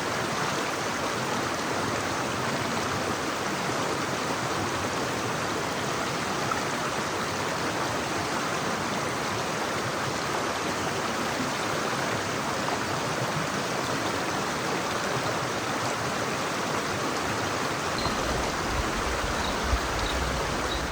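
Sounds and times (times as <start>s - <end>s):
river rushing over rocks: 0.0s - 20.9s.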